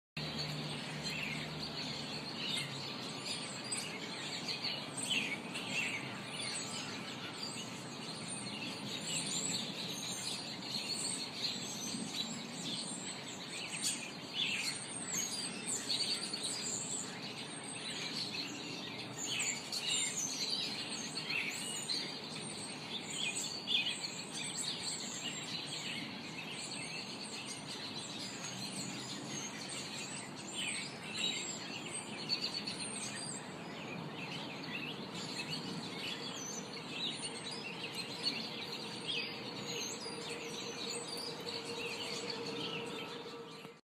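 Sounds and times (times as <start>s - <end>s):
garden birds singing: 0.2s - 43.8s
steady background noise: 0.2s - 43.8s.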